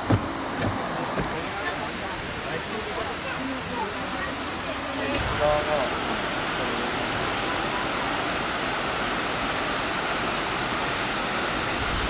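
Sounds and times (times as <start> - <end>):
river water rushing over weir: 0.0 - 12.0.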